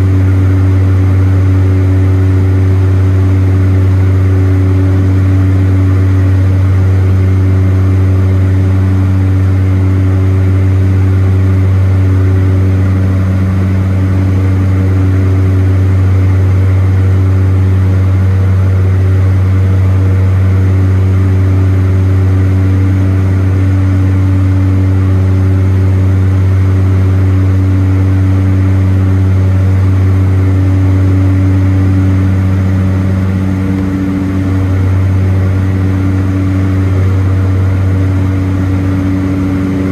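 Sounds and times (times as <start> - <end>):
propeller plane cabin drone: 0.0 - 39.9.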